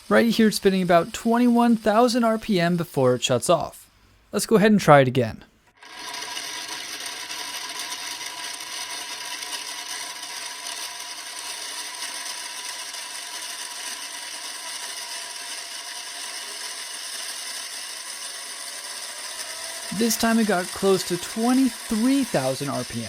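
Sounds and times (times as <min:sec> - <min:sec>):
high-pitched gear whine: 0:00.0 - 0:03.2, 0:05.8 - 0:23.0.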